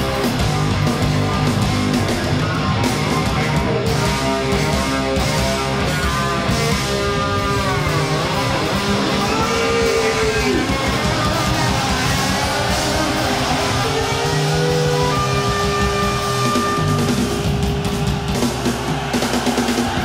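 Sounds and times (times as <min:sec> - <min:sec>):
electric guitar bending notes: 0:00.0 - 0:17.9
live hard rock band: 0:00.0 - 0:20.0.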